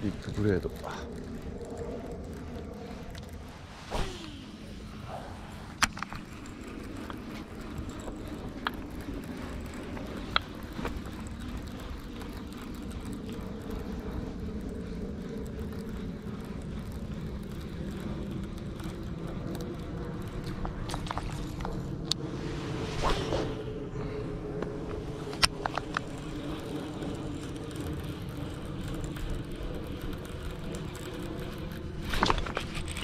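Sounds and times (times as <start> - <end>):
reel clicks: 0.0 - 3.6, 5.7 - 22.2, 25.3 - 33.0
fishing reel whizz: 0.0 - 21.6, 25.4 - 33.0
low drone: 0.0 - 33.0.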